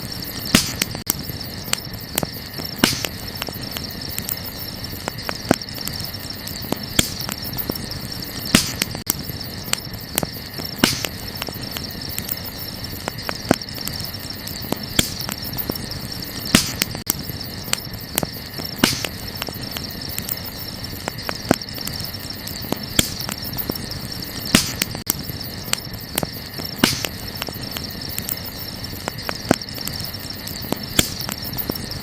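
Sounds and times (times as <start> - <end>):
campfire crackling and popping: 0.0 - 32.0
insects chirring: 0.0 - 32.0.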